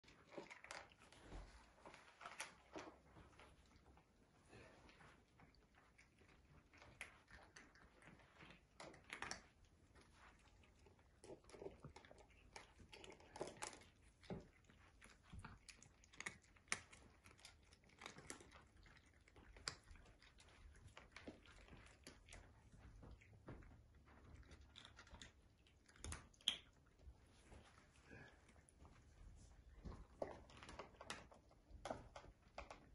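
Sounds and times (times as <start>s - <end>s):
cats crunching dry kibble: 0.0s - 32.9s.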